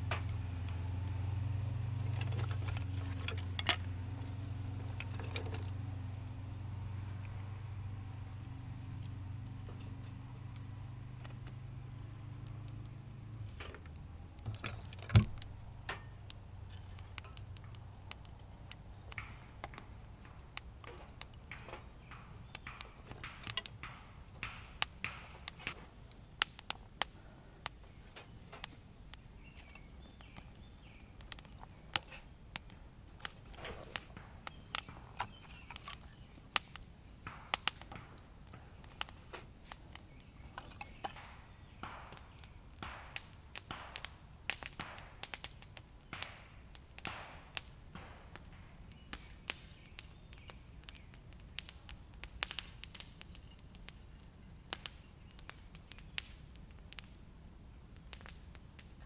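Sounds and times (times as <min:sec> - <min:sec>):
sharp clicks and knocks: 0:00.0 - 0:51.1.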